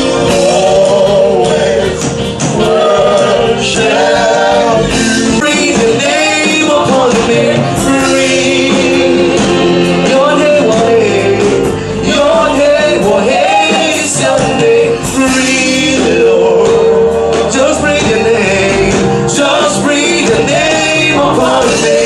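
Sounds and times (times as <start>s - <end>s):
live band playing: 0.0s - 22.0s
man singing gospel: 0.0s - 22.0s.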